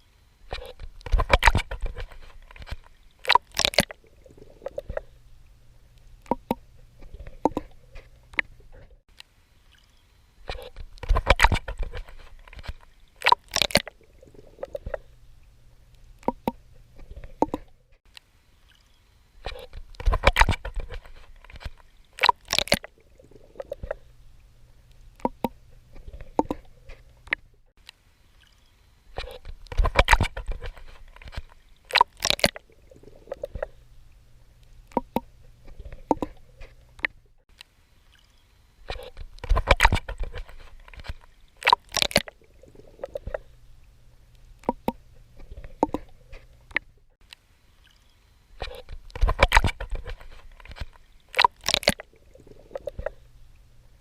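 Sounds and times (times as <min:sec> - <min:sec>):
water gurgling: 0:00.0 - 0:09.0, 0:10.4 - 0:17.8, 0:19.4 - 0:27.4, 0:28.2 - 0:37.1, 0:37.8 - 0:46.8, 0:47.6 - 0:54.0.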